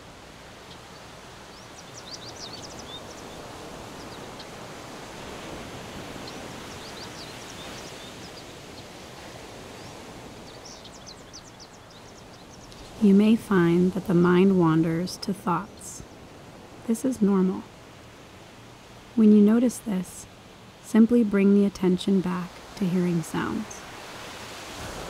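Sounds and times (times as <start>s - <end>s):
leaves rustling in wind: 0.0s - 25.0s
songbirds chirping: 0.0s - 25.0s.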